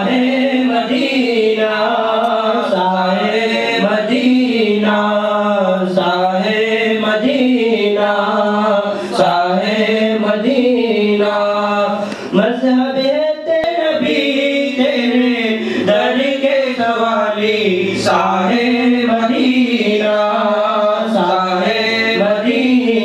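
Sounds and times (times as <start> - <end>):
men chanting into microphones: 0.0 - 23.0.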